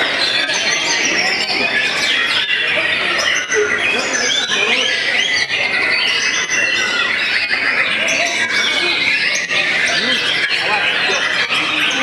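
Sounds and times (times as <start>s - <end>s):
songbirds singing together: 0.0s - 12.0s.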